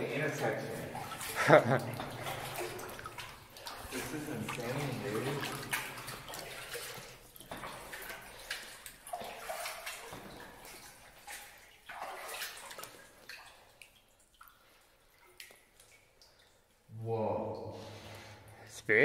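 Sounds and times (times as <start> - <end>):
paddle blades splashing: 0.0 - 16.6
water dripping off paddle: 0.3 - 16.9.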